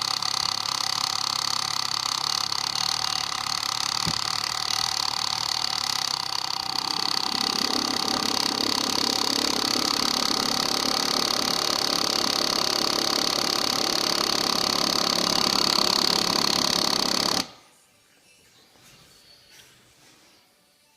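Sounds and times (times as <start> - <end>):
electric fuel pump whine: 0.0 - 17.7.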